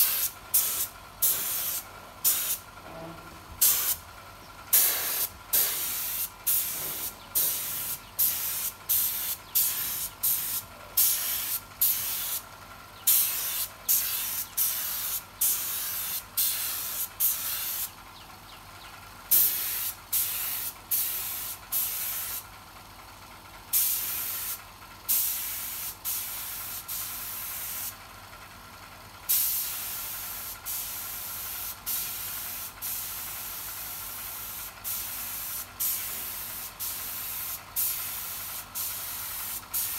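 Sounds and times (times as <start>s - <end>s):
spray gun hissing: 0.0s - 2.6s, 3.6s - 4.0s, 4.7s - 12.4s, 13.1s - 17.9s, 19.3s - 22.4s, 23.8s - 27.9s, 29.3s - 39.9s.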